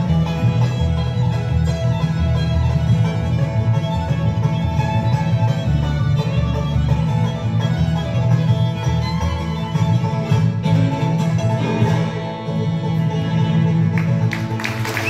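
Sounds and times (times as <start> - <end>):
acoustic guitars: 0.0 - 15.0
fiddle: 0.0 - 15.0
upright bass: 0.0 - 15.0.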